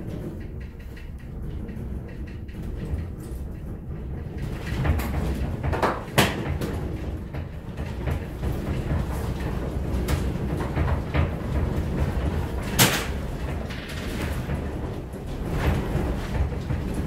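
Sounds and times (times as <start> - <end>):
furniture creaking and rattling: 0.0 - 17.0
low earthquake rumble: 0.0 - 17.0.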